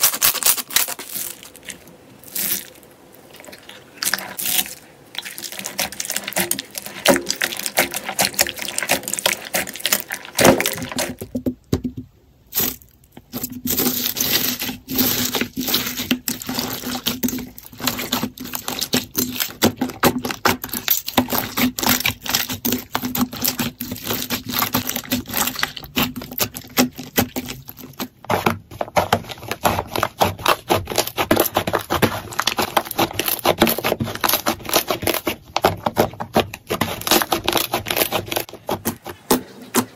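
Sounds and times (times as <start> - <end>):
slime crackling and popping: 0.0 - 11.3, 12.5 - 38.8.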